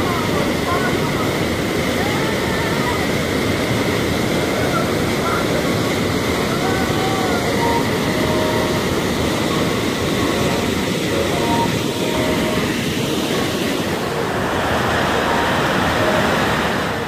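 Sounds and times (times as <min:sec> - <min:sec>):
water rushing down spillway: 0:00.0 - 0:17.0.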